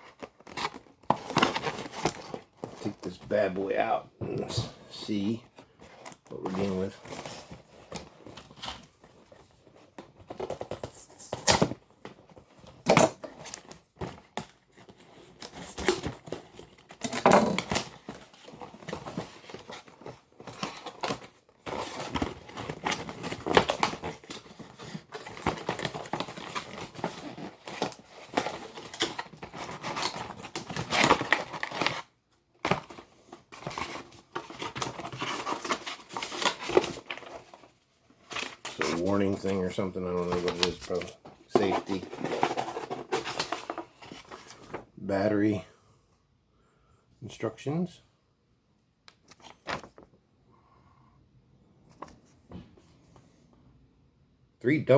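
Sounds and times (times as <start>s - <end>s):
plastic and cardboard crinkling: 0.0s - 44.9s.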